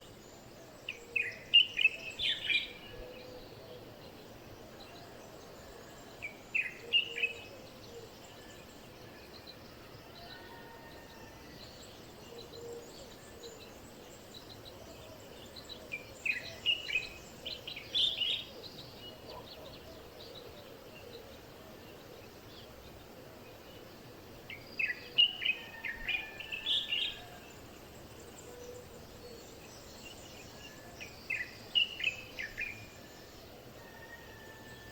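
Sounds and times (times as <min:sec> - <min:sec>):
birds chirping and trilling: 0:00.0 - 0:34.9.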